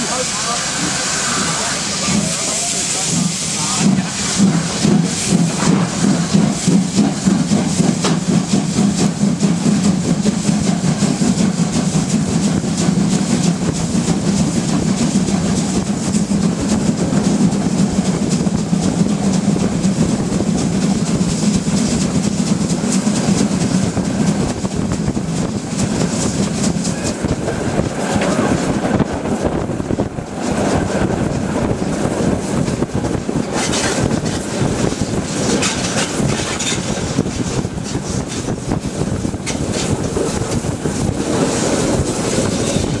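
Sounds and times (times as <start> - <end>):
steam locomotive running: 0.0 - 43.0.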